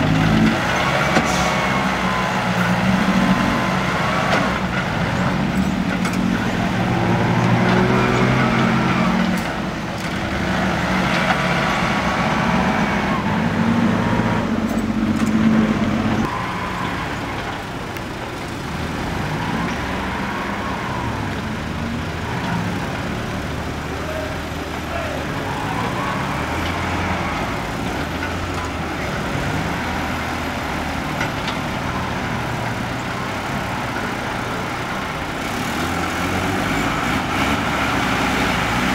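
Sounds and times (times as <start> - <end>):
dump truck engine running: 0.0 - 38.9.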